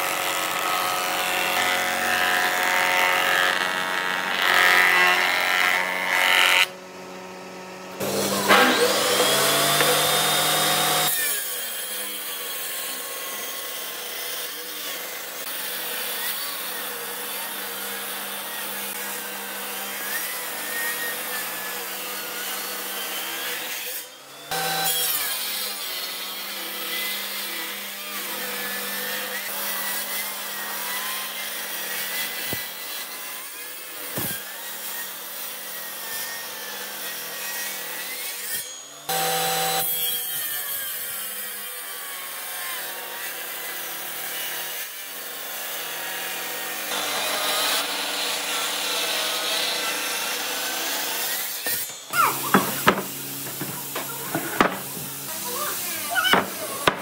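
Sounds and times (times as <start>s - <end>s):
planer shaving a board: 0.0s - 57.0s
table saw ripping wood: 0.0s - 57.0s.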